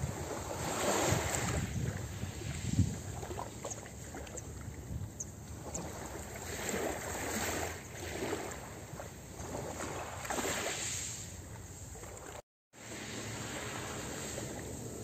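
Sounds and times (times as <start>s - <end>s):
small waves lapping on pebbles: 0.0s - 4.4s, 5.5s - 15.0s.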